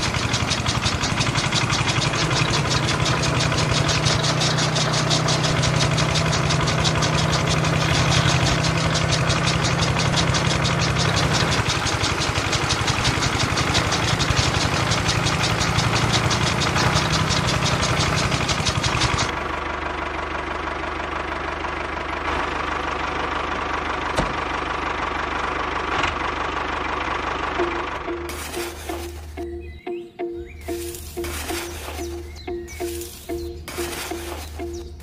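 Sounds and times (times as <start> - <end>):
small diesel engine knocking: 0.0 - 35.0.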